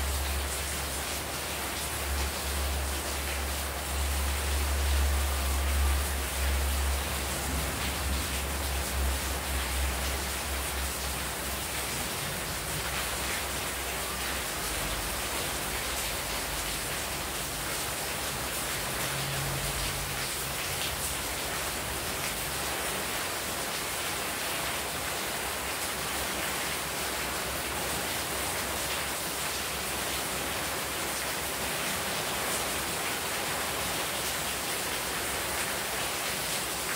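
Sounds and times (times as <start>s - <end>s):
heavy rain: 0.0s - 36.9s
water pouring off roof splashing: 0.0s - 36.9s.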